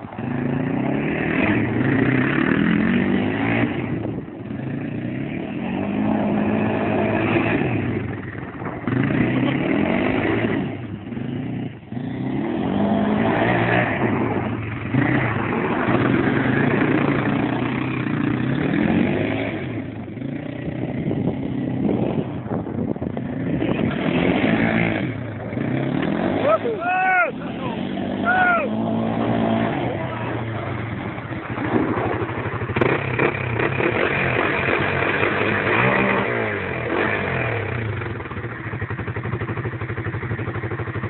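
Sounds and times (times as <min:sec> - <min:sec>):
quad engine revving: 0:00.0 - 0:41.0.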